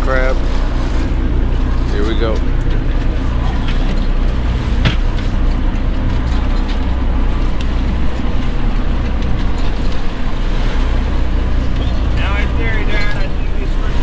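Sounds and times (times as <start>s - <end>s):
boat engine drone: 0.0s - 14.0s
hydraulic hauler: 0.0s - 14.0s
water rushing past hull: 0.0s - 14.0s
wind: 0.0s - 14.0s.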